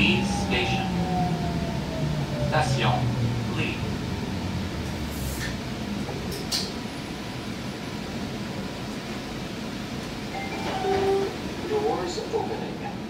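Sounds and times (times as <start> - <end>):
tram cabin hum: 0.0 - 13.0
tram running rumble: 0.0 - 13.0.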